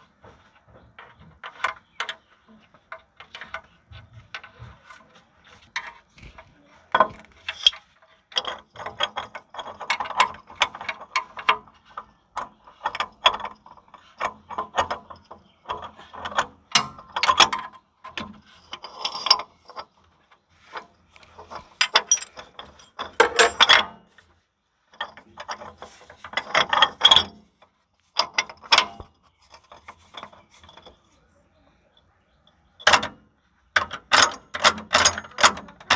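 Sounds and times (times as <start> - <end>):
metal parts clicking and clinking: 0.6 - 31.2, 32.5 - 35.9.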